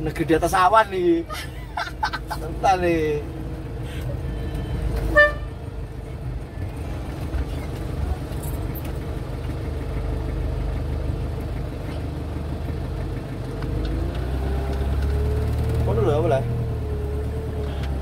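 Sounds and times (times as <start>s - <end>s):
van engine running at low speed: 0.0s - 18.0s.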